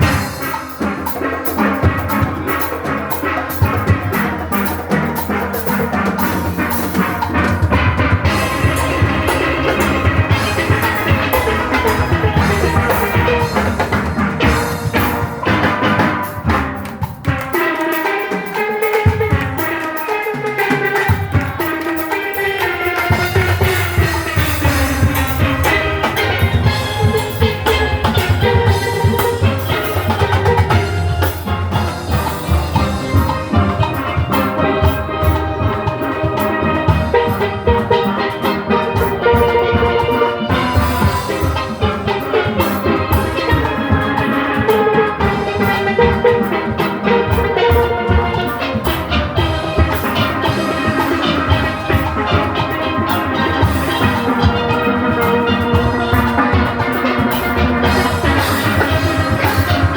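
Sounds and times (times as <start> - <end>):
drum and percussion rhythm: 0.0 - 59.9
steelpans playing melody: 0.0 - 59.9.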